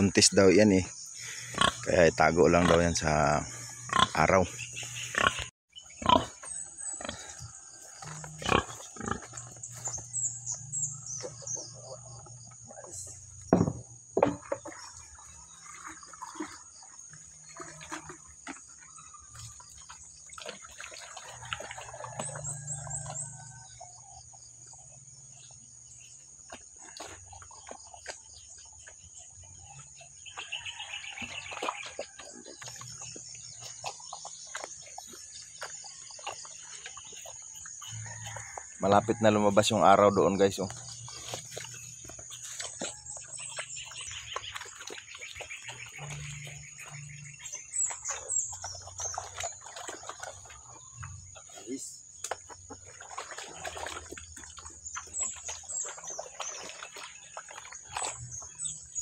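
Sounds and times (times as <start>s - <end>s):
pig eating and grunting: 1.2s - 13.5s, 14.6s - 59.0s.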